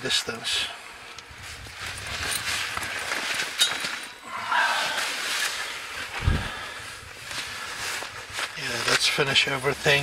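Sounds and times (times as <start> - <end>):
clothing and gear rustling: 1.2 - 10.0.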